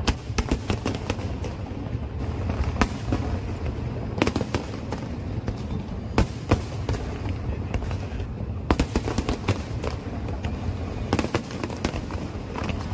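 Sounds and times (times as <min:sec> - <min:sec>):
fireworks bangs and cracks: 0:00.0 - 0:12.9
steady low rumble: 0:00.0 - 0:12.9.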